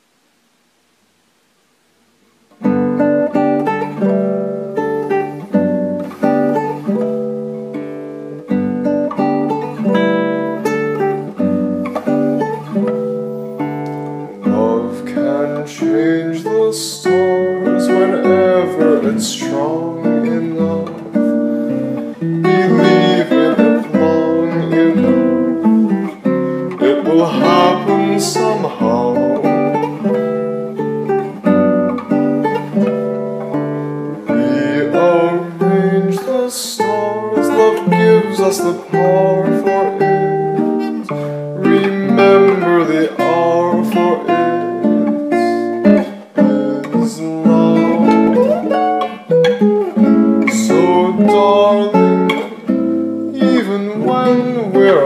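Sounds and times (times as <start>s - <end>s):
acoustic guitar playing: 2.3s - 55.0s.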